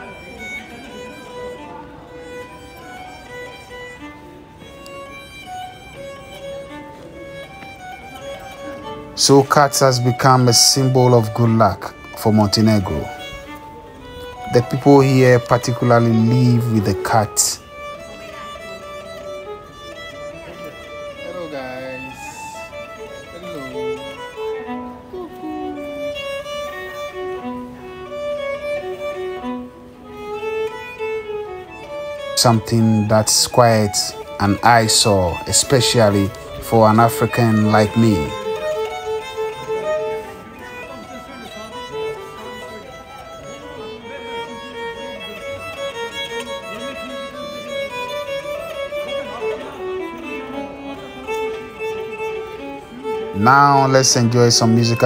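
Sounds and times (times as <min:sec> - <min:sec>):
violin melody: 0:00.0 - 0:55.0.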